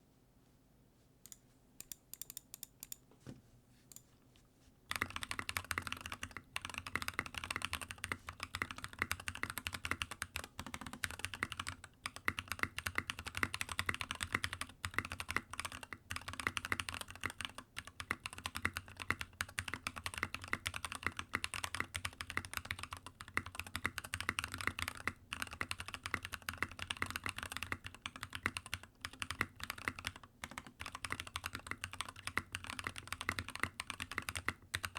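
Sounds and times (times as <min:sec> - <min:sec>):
mechanical keyboard typing: 0:04.9 - 0:34.9.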